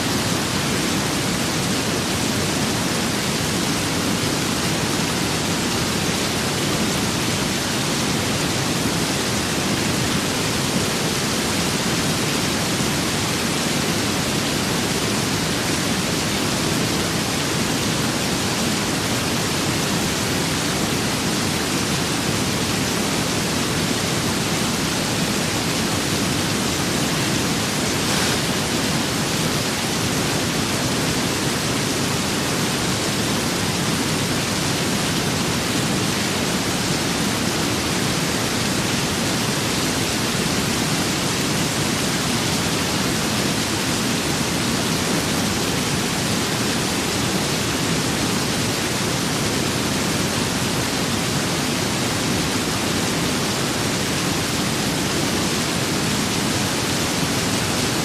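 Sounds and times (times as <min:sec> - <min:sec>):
steady rain: 0:00.0 - 0:58.0
wind: 0:00.0 - 0:58.0.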